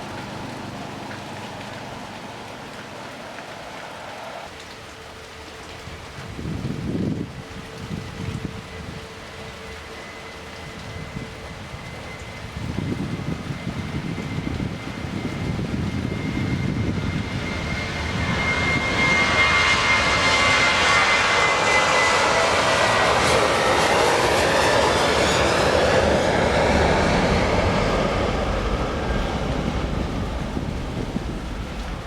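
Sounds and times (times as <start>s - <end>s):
jet plane passing: 0.0s - 5.6s, 6.3s - 32.0s
high fan whine: 0.0s - 32.0s.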